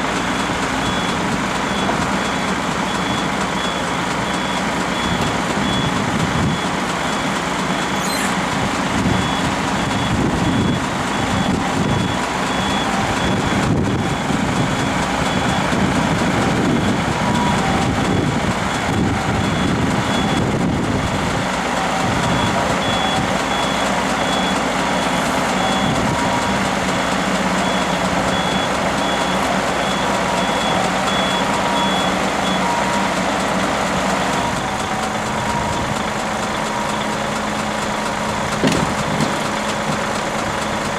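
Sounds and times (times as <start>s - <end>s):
heavy diesel engine running: 0.0s - 40.9s
reversing alarm beeping: 0.3s - 37.3s.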